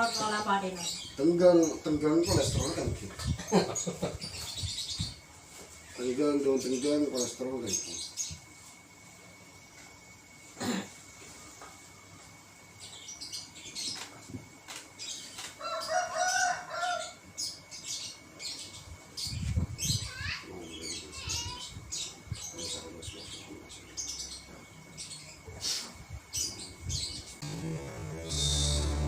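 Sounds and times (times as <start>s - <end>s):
birds calling and chirping: 0.0s - 29.0s.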